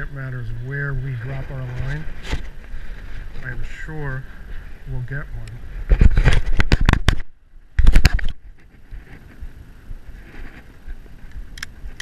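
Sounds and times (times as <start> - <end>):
low breeze: 0.0 - 12.0
wind buffeting microphone: 0.0 - 12.0.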